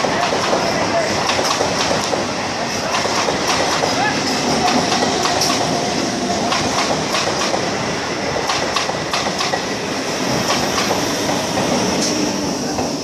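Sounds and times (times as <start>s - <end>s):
wheels clacking over rail joints: 0.0s - 5.8s, 6.4s - 9.7s, 10.3s - 13.0s
train rumble: 0.0s - 13.0s.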